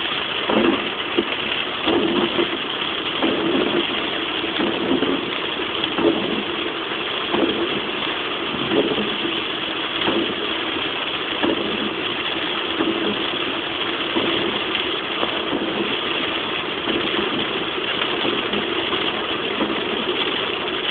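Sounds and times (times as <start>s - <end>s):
heavy rain on car: 0.0s - 20.9s
road noise inside car: 0.0s - 20.9s
soft regular pulse: 0.0s - 20.9s.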